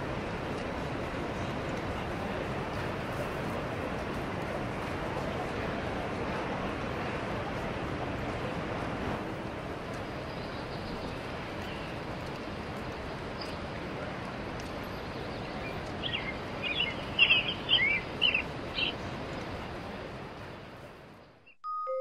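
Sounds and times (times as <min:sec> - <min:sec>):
outdoor background hiss: 0:00.0 - 0:21.5.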